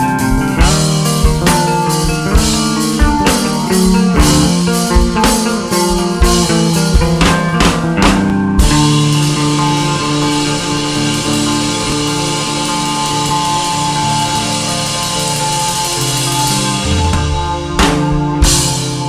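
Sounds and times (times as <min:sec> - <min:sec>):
drum kit strikes: 0:00.0 - 0:19.0
held rock chord ringing: 0:00.0 - 0:19.0.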